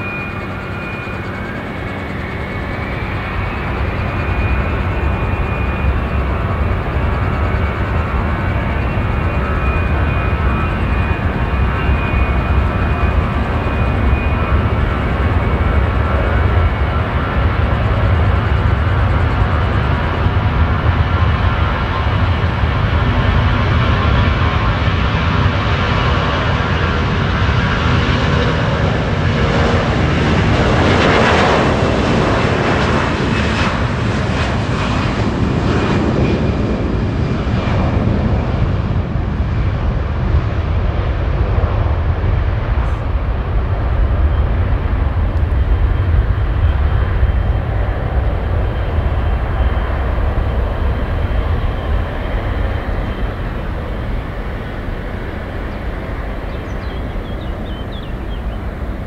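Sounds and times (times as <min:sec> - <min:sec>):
jet engines low rumble: 0:00.0 - 0:59.0
jet engines rushing hiss: 0:00.0 - 0:59.0.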